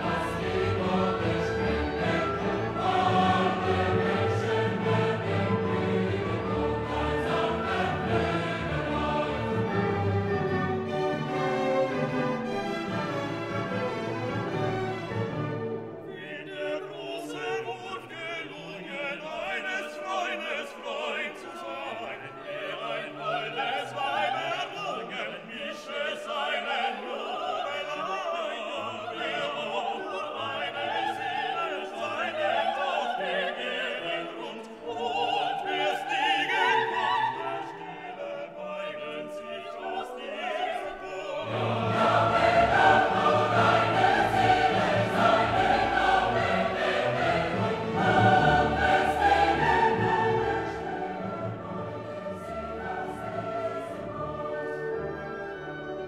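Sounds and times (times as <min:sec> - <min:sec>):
choir singing: 0:00.0 - 0:56.0
classical singing with orchestra: 0:00.0 - 0:56.0.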